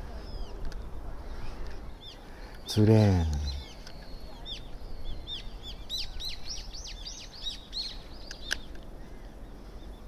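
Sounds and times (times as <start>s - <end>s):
bird chirping: 1.4s - 10.0s.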